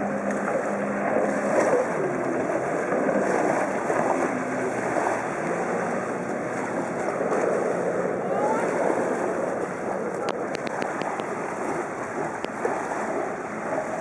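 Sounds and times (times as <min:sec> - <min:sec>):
jet ski engine hum: 0:00.0 - 0:14.0.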